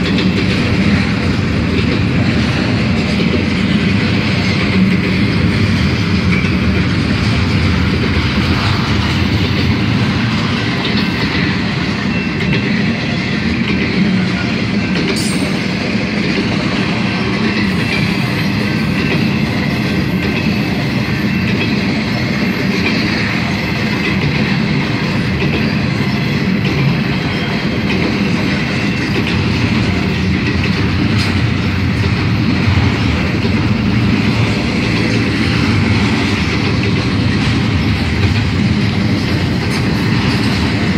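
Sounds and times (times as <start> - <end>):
train wheels rumbling on rail: 0.0 - 40.9
wheels clacking over rail joints: 0.0 - 40.9.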